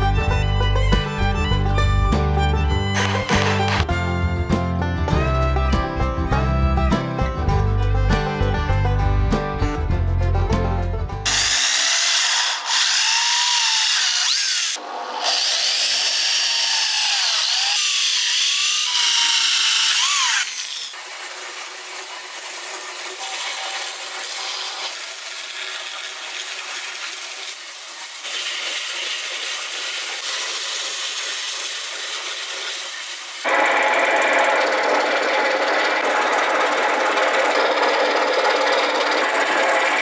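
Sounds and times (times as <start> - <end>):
power saw cutting wood: 0.0 - 5.8, 11.2 - 40.0
band saw cutting wood: 0.0 - 9.0, 11.2 - 40.0.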